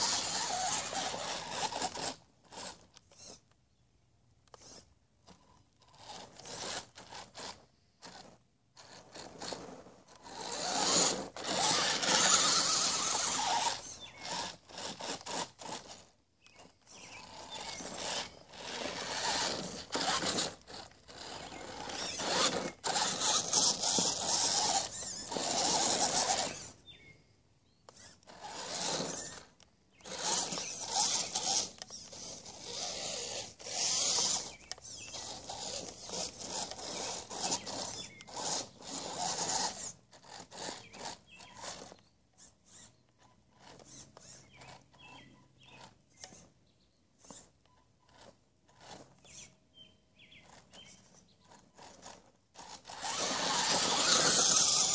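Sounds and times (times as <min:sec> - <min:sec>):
toy car electric motor whirring: 0:00.0 - 0:03.6, 0:04.4 - 0:54.9.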